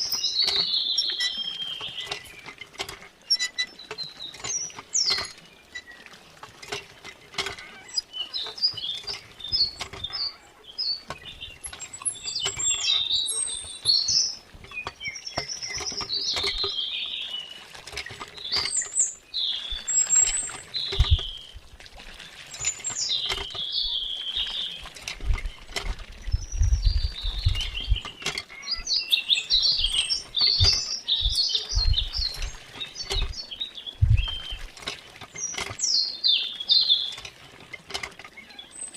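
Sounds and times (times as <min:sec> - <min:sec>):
birds chirping: 0:00.0 - 0:02.6, 0:03.2 - 0:06.1, 0:07.5 - 0:21.6, 0:22.5 - 0:37.2.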